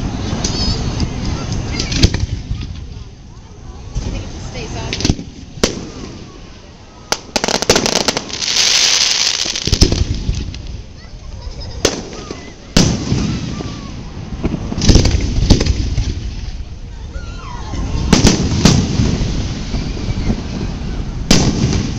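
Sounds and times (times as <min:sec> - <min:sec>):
fireworks bangs: 0:00.0 - 0:16.9, 0:17.7 - 0:21.9
crackling hiss: 0:00.0 - 0:21.9.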